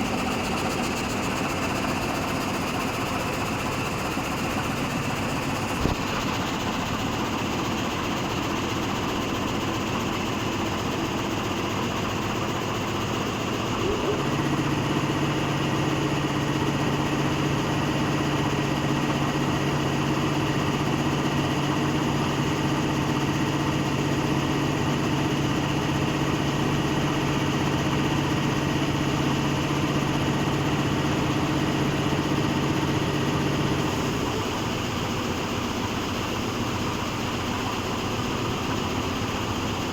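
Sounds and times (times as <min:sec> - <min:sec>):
frame saw machine running: 0:00.0 - 0:39.9.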